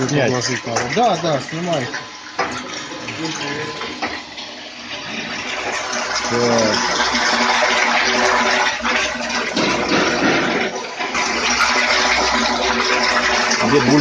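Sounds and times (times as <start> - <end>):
water churning and splashing: 0.0 - 14.0.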